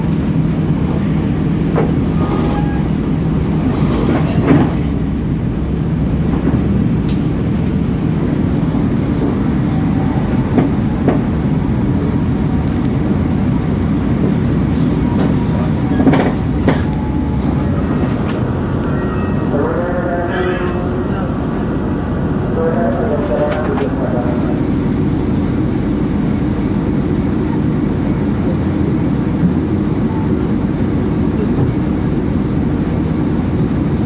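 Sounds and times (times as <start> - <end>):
train rumble from inside coach: 0.0 - 34.0.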